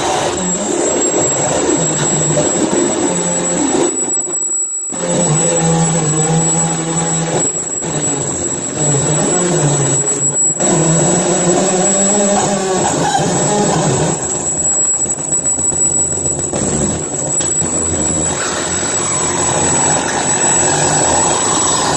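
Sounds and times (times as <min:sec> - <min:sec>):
distorted electronic noise: 0:00.0 - 0:21.9
high whine: 0:00.0 - 0:21.9.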